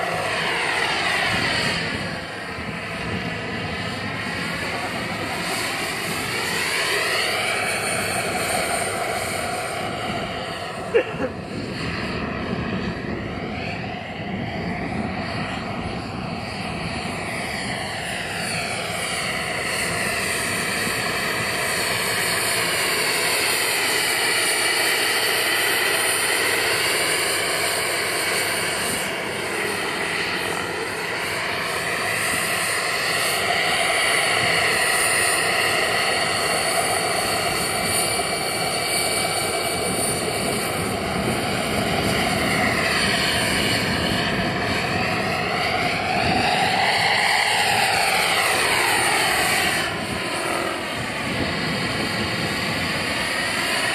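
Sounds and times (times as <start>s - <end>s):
turbine helicopter whine: 0.0s - 53.9s.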